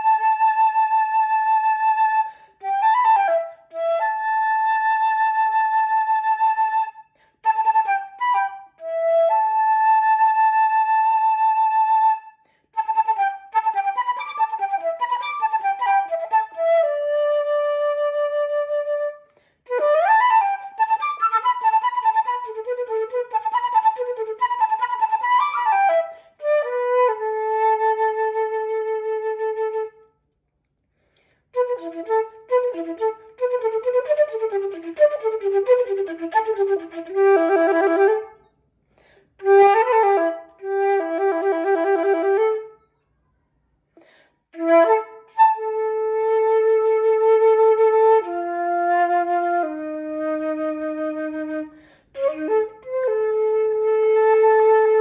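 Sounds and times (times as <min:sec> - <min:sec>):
solo flute playing: 0:00.0 - 0:30.2, 0:31.5 - 0:38.5, 0:39.4 - 0:43.0, 0:44.5 - 0:55.0.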